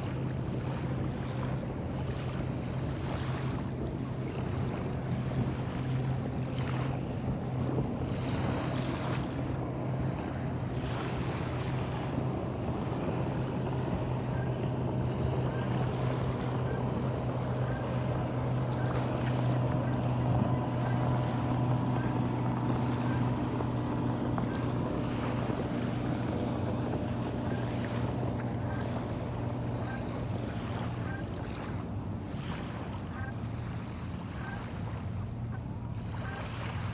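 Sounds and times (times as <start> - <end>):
low engine drone: 0.0 - 36.9
wind: 0.0 - 36.9.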